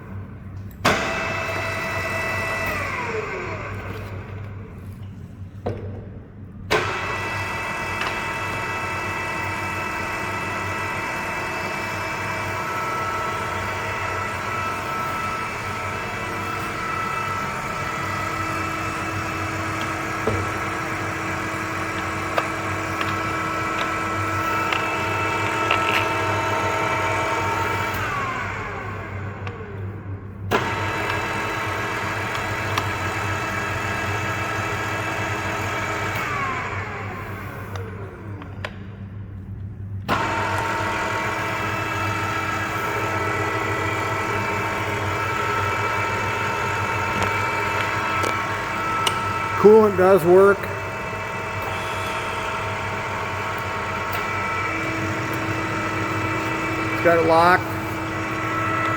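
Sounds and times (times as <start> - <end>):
drill motor geared whine: 0.9 - 4.6, 6.7 - 29.9, 30.5 - 38.6, 40.1 - 58.9.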